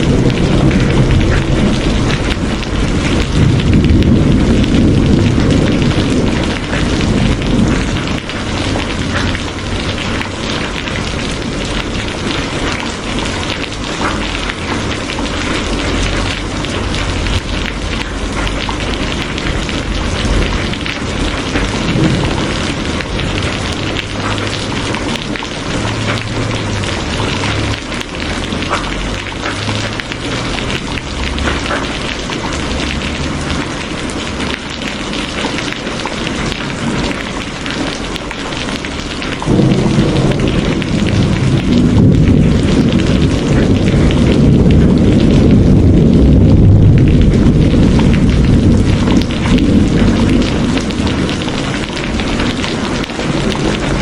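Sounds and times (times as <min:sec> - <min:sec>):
deep rumble of thunder: 0:00.0 - 0:54.0
heavy rain falling: 0:00.0 - 0:54.0.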